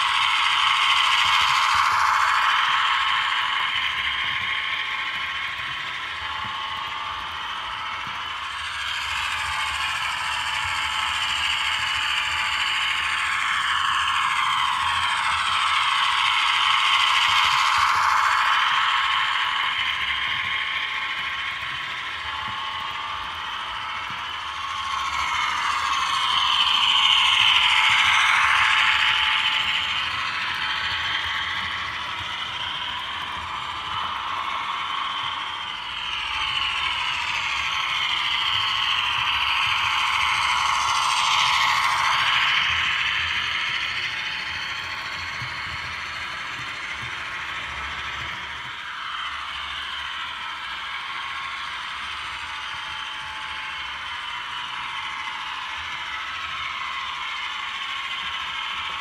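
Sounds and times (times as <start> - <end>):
model train whirring on track: 0.0 - 59.0.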